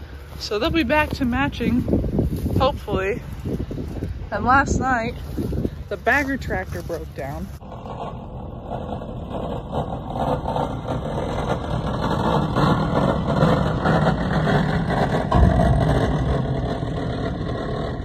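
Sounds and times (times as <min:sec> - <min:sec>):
tractor engine passing: 0:00.0 - 0:18.0.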